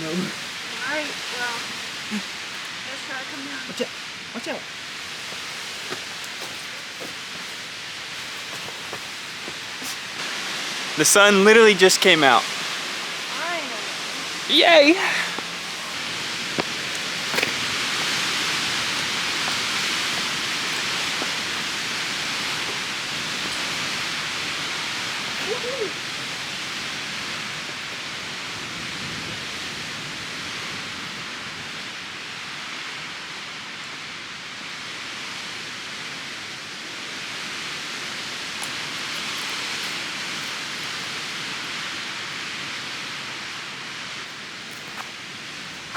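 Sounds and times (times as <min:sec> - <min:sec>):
rushing wind: 0:00.3 - 0:45.9.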